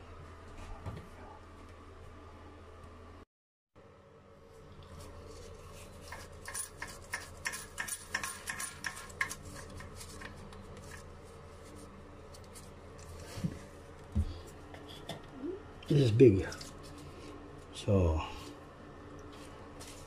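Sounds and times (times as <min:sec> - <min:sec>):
steady low hum: 0:03.8 - 0:20.0.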